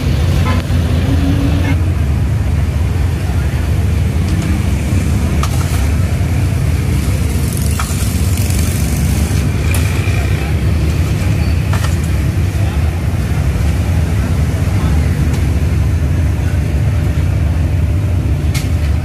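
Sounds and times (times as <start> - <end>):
gas burners roaring: 0.0 - 19.0.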